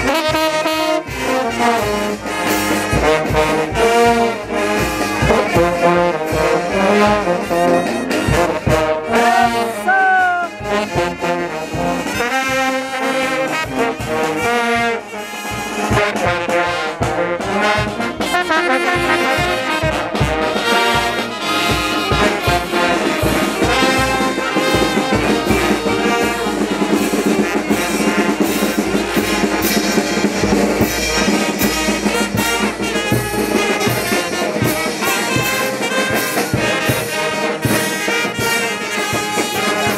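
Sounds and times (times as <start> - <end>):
brass band playing dance tune: 0.0 - 39.9.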